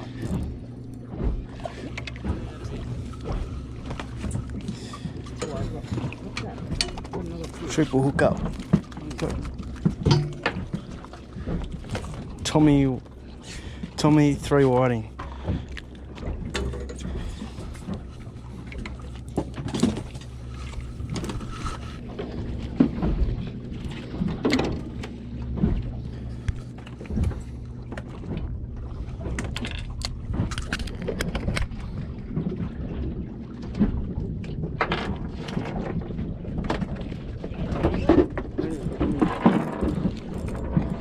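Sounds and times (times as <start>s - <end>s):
boat motor humming: 0.0s - 41.0s.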